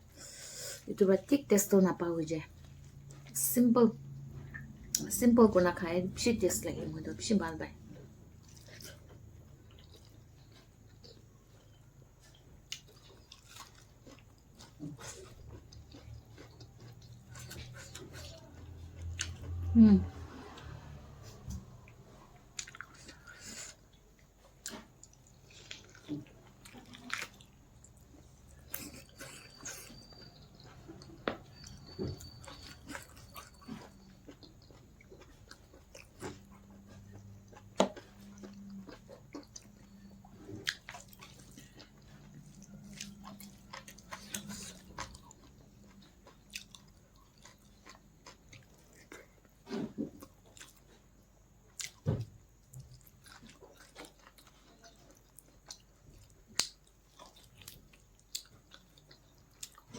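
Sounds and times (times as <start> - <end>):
person chewing food: 2.5 - 3.4, 4.0 - 5.1, 7.7 - 59.9.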